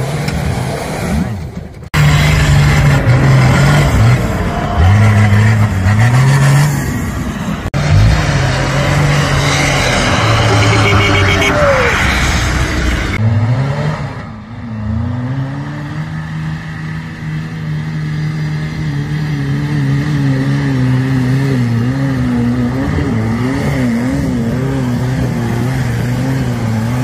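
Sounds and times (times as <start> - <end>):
off-road engine under load: 0.0 - 27.0.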